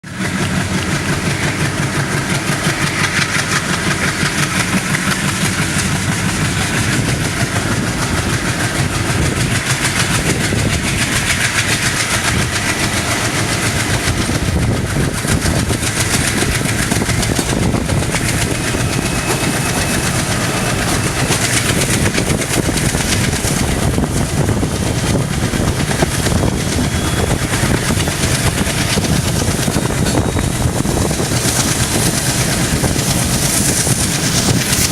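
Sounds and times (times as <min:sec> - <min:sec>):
diesel locomotive engine running: 0:00.0 - 0:34.9
wheels clattering over rail joints: 0:00.0 - 0:34.9.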